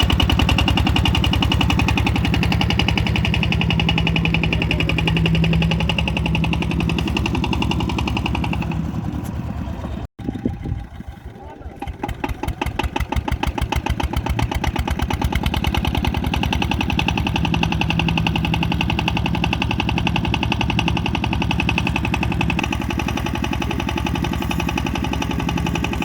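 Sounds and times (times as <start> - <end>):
diesel water pump engine starting: 0.0 - 26.0.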